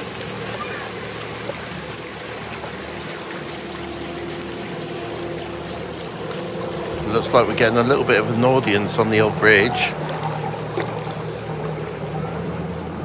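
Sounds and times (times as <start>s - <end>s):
boat engine running: 0.0s - 13.0s
water churning and splashing: 0.0s - 13.0s.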